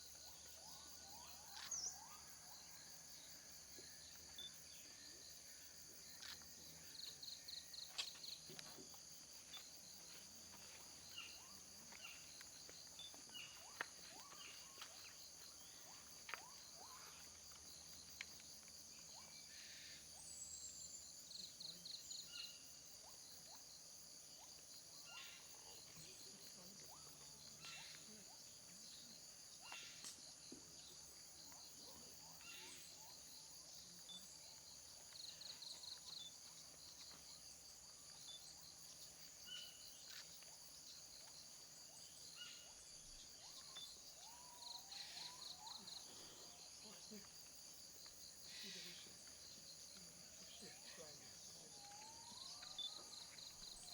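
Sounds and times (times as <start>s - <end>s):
crickets and insects chirping: 0.0s - 53.9s.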